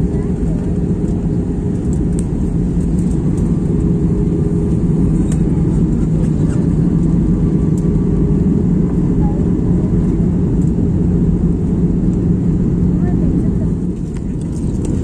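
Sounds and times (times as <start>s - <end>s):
jet engine rumble inside cabin: 0.0s - 15.0s.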